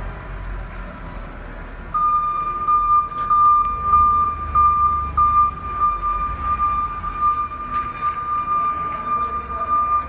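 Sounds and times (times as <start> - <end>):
truck engine humming: 0.0 - 10.0
truck backup alarm beeping: 1.9 - 10.0.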